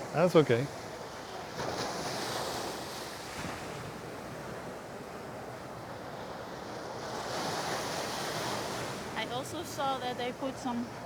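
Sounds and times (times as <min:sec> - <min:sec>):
sea waves washing on beach: 0:00.0 - 0:11.0.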